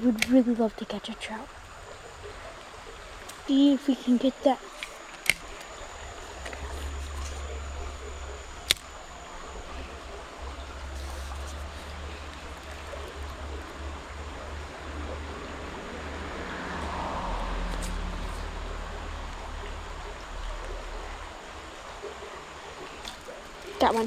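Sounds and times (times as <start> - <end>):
creek water running: 0.0 - 24.0.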